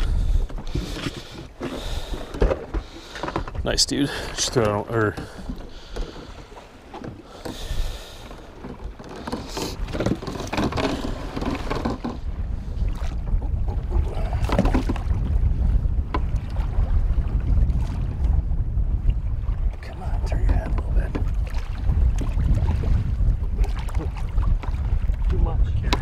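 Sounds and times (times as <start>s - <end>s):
waves lapping against boat hull: 0.0s - 26.0s
wind on microphone: 0.0s - 26.0s.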